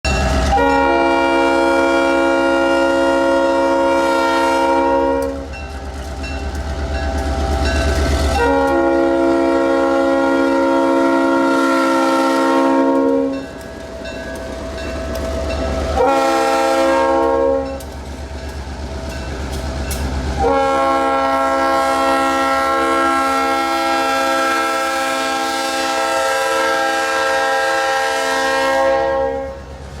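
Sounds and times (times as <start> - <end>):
train air horn blasts: 0.3 - 6.0, 7.3 - 14.1, 14.7 - 17.9, 20.3 - 29.8.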